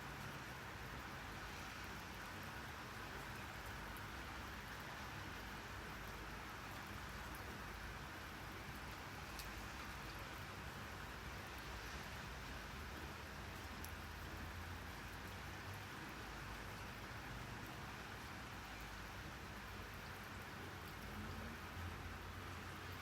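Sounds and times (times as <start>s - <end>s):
faint raindrop ticks: 0.0s - 23.0s
rain hissing: 0.8s - 23.0s.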